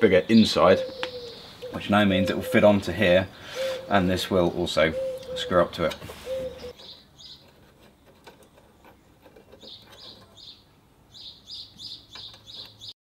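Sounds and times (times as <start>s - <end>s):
small bird chirping: 0.8s - 2.8s, 3.6s - 8.1s, 8.7s - 13.0s.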